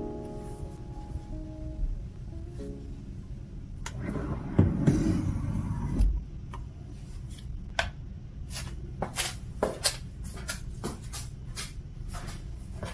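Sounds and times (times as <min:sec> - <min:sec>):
low room hum: 0:00.0 - 0:12.9.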